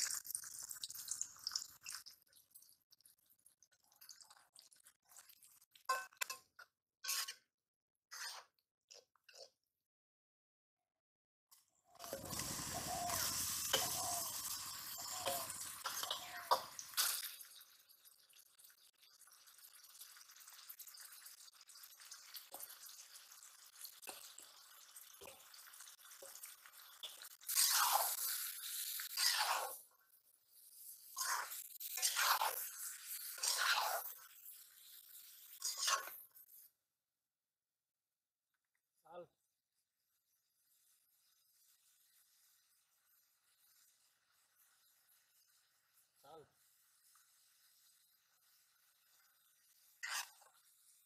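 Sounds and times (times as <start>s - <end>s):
hot oil sizzling: 0.0s - 7.5s, 11.6s - 36.7s, 40.0s - 51.0s.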